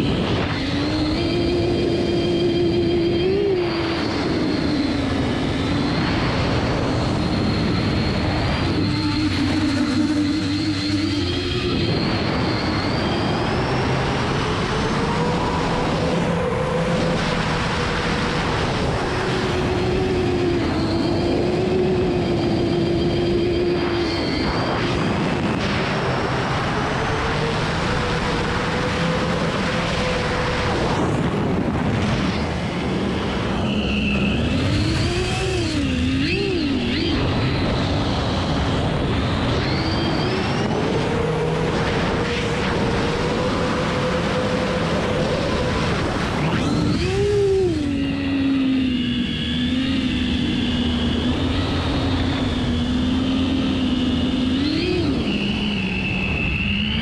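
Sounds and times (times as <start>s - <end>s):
drone motors whining: 0.0s - 57.0s
rush of wind: 0.0s - 57.0s.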